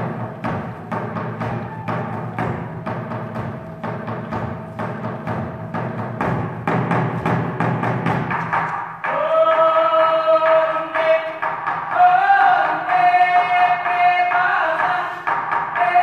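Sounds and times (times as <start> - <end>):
rhythmic percussion beats: 0.0 - 16.0.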